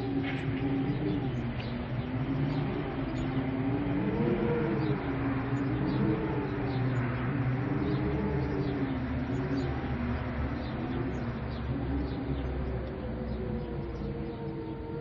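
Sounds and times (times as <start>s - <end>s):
eerie howling wind: 0.0s - 15.0s.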